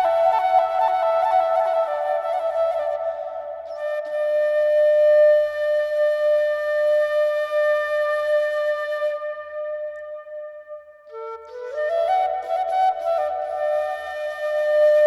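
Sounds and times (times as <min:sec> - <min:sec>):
flute holding long note: 0:00.0 - 0:15.0.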